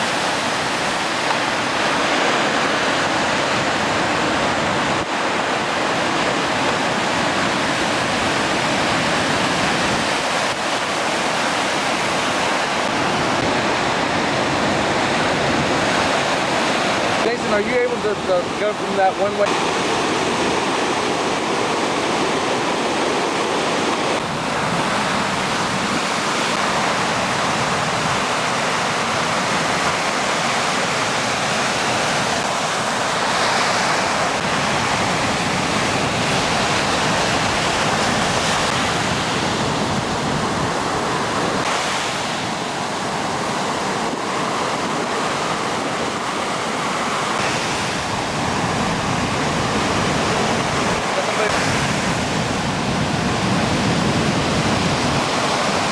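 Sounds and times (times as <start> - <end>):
ocean surf rushing: 0.0 - 55.9.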